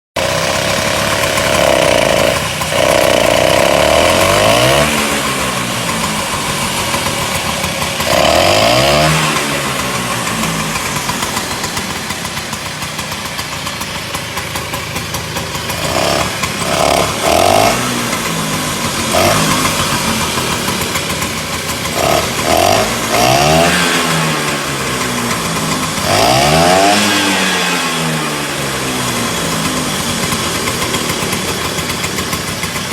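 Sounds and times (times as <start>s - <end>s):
scooter engine revving and idling: 0.1s - 32.9s.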